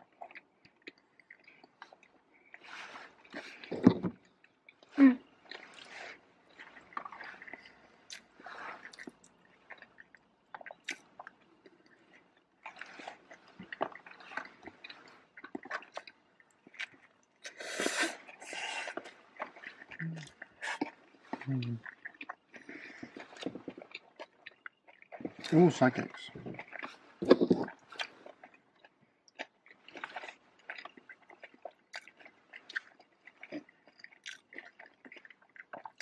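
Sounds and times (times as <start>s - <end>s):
close chewing mouth sounds: 0.0s - 36.0s.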